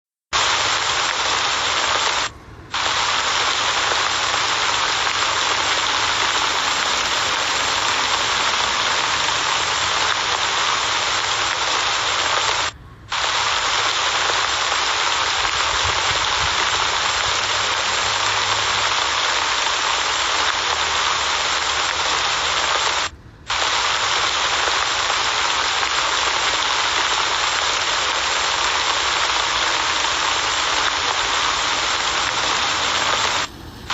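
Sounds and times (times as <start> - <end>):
heavy rain falling: 0.4 - 33.9.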